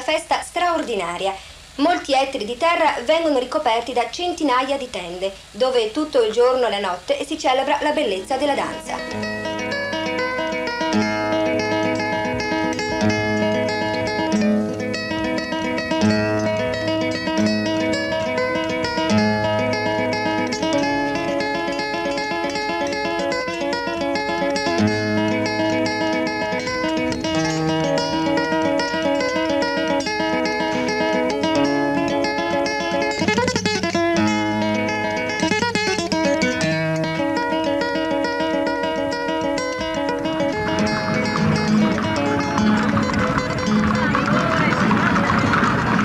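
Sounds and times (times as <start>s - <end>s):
acoustic guitar music: 0.0s - 46.0s.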